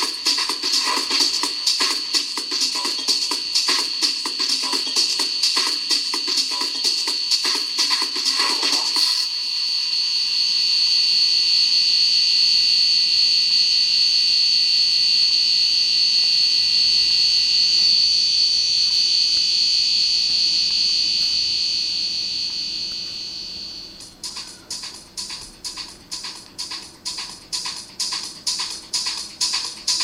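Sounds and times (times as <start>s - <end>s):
high-pitched buzzer tone: 0.0s - 28.7s.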